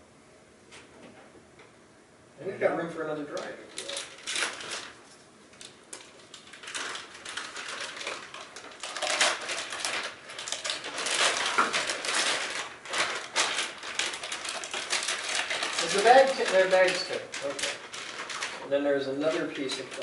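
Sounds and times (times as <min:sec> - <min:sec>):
plastic packaging crinkling: 0:03.3 - 0:20.0.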